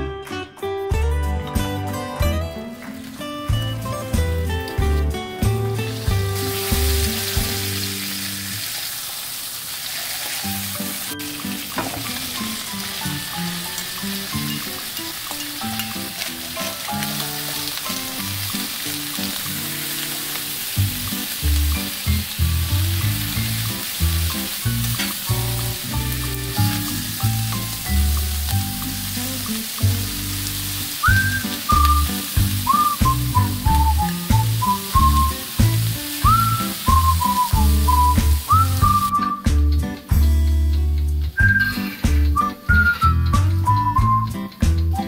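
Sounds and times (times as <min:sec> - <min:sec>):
background music: 0:00.0 - 0:08.7, 0:10.4 - 0:45.0
food sizzling in butter: 0:02.4 - 0:39.3.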